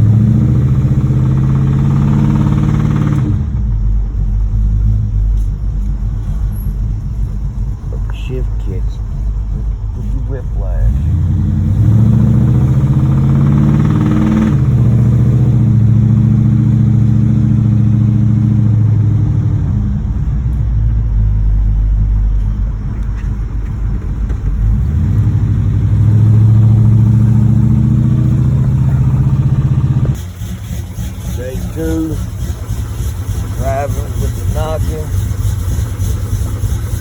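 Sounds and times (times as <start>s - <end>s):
knocking car engine running: 0.0s - 37.0s.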